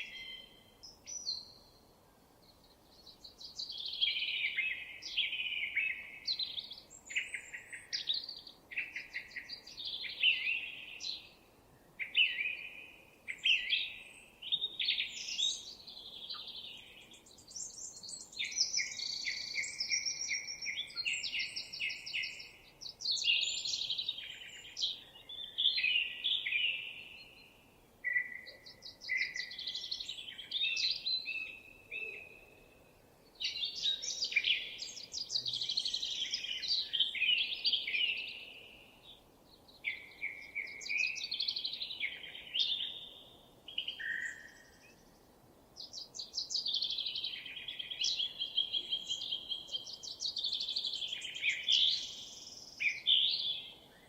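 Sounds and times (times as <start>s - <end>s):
songbirds singing trills: 0.0s - 54.0s.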